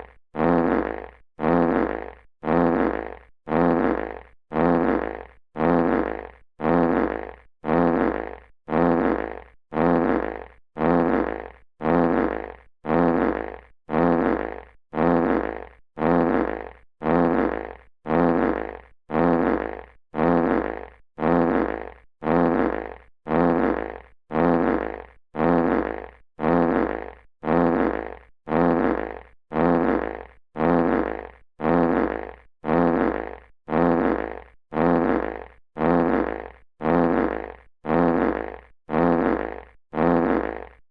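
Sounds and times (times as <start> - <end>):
fart sound effect: 0.0 - 40.8.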